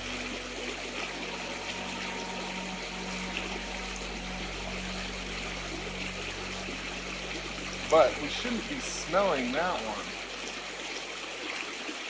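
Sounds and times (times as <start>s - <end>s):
low steady hum: 0.0s - 11.7s
river water rushing: 0.0s - 12.0s.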